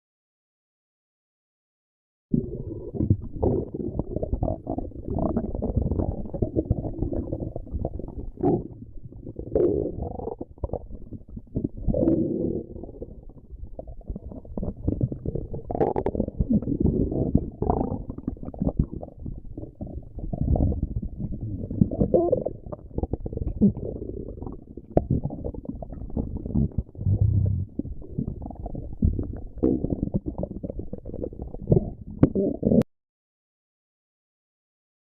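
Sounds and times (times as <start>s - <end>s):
stomach growling and gurgling: 2.3s - 32.9s.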